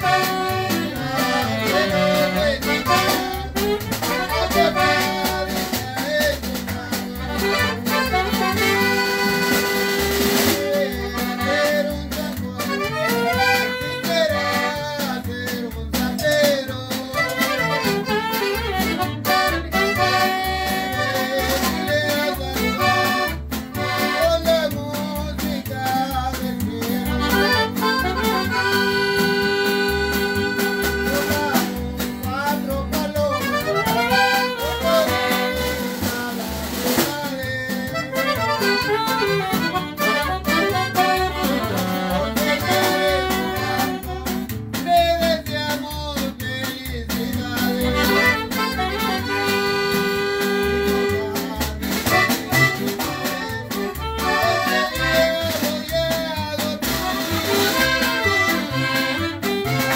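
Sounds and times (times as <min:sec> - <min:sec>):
accordion melody: 0:00.0 - 0:59.9
guitar strumming: 0:00.0 - 0:59.9
upright bass plucking: 0:00.0 - 0:59.9.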